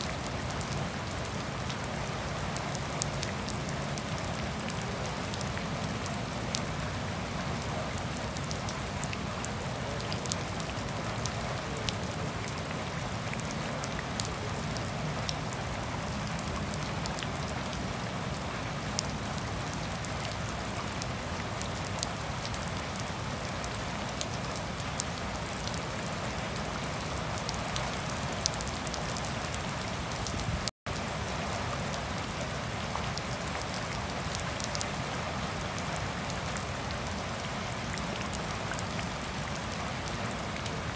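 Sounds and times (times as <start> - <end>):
gentle rain on grass and leaves: 0.0 - 40.9.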